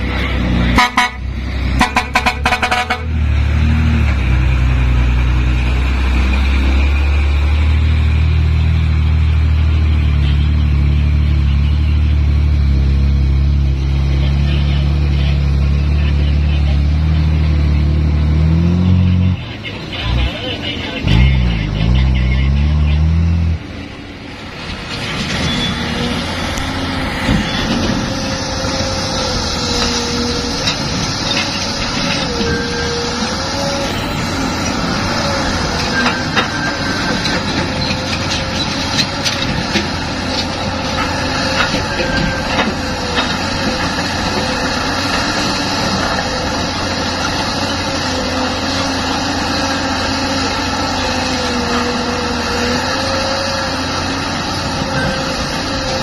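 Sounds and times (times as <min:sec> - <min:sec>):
excavator engine and hydraulics: 0:00.0 - 0:56.0.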